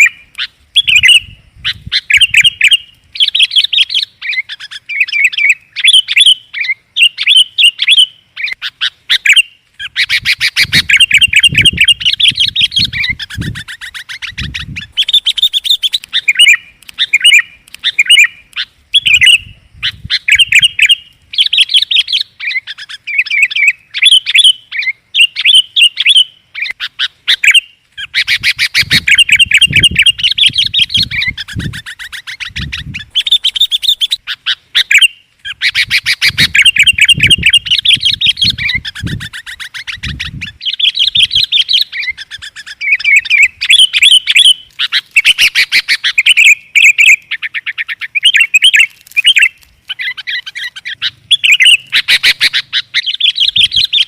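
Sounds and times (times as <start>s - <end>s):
bulbuls calling: 0.0s - 54.0s
fast bird chattering: 0.0s - 54.0s.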